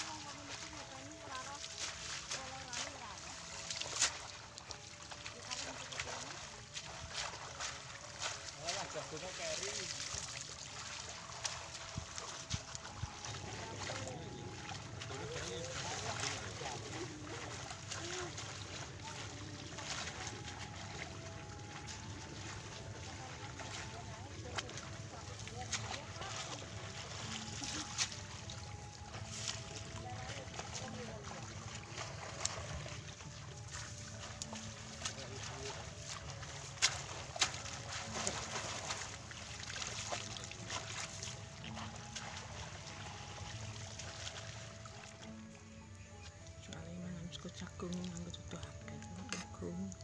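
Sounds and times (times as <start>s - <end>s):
plants pulled from wet ground: 0.0s - 45.5s
water splashing: 0.0s - 50.0s.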